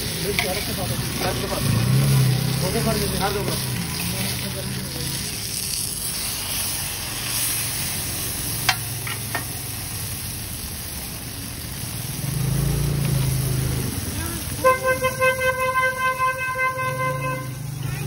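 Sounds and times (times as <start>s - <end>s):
bread sizzling on a griddle: 0.0s - 18.0s.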